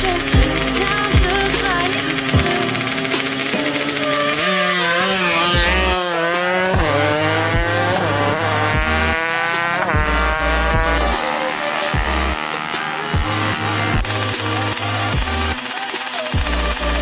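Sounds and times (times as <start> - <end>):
motorcycle engine accelerating hard: 0.0 - 17.0.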